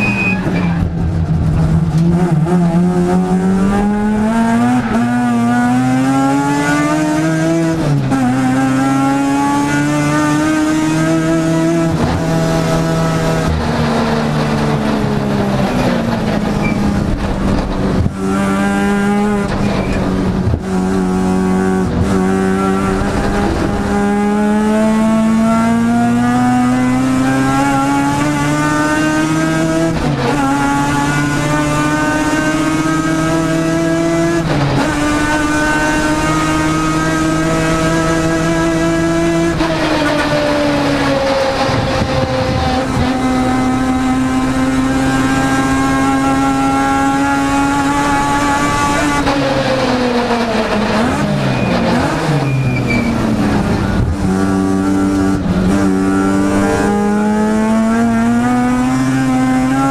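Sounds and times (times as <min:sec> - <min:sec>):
rotary engine revving: 0:00.0 - 0:59.9.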